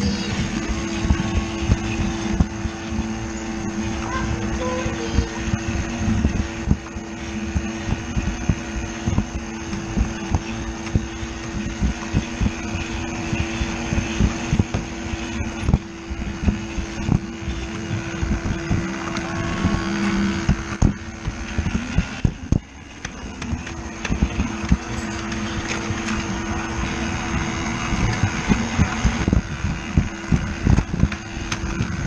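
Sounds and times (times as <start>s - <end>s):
toy train motor hum: 0.0s - 32.0s.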